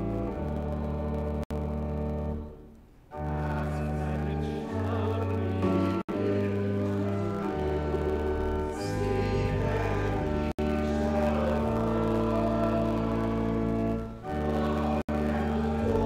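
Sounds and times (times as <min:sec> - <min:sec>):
pipe organ chords: 0:00.0 - 0:16.0
choir singing a hymn: 0:03.1 - 0:16.0.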